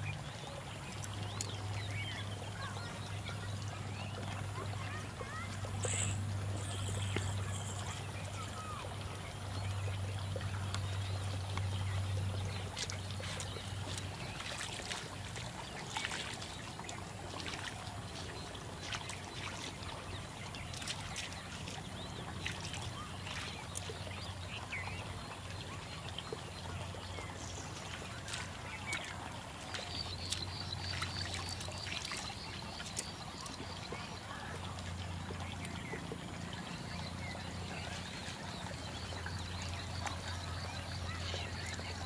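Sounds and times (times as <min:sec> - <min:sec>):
hands working in wet mud: 0:00.0 - 0:42.0.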